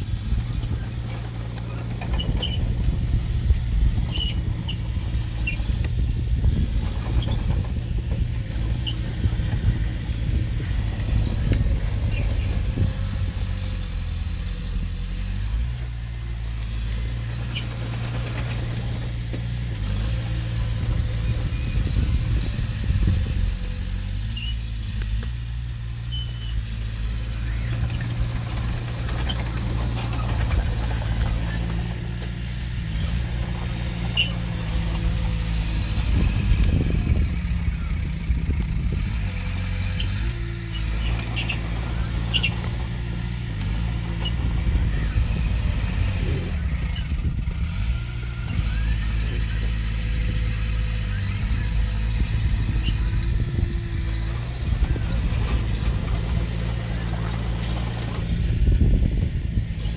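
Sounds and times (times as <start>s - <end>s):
diesel engine running: 0.0s - 59.9s
light metallic squeaks and clicks: 0.4s - 37.2s, 39.2s - 58.4s.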